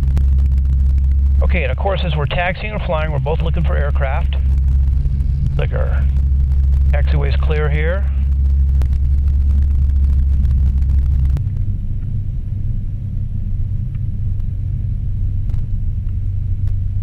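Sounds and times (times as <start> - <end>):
airplane engine droning: 0.0 - 17.0.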